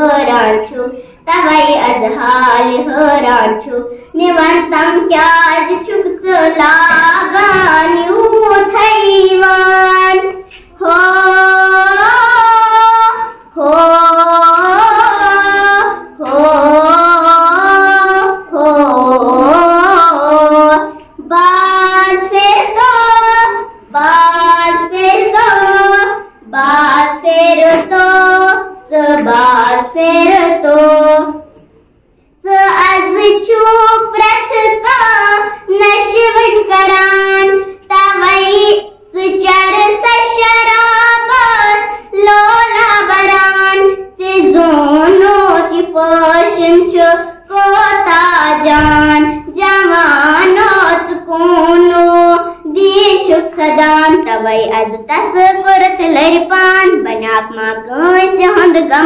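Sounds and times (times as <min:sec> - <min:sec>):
girl singing unaccompanied: 0:00.0 - 0:59.0.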